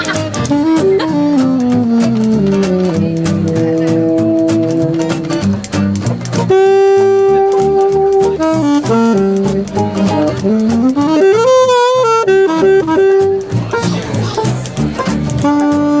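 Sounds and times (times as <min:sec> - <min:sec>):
lead instrument melody: 0:00.0 - 0:16.0
live band playing: 0:00.0 - 0:16.0.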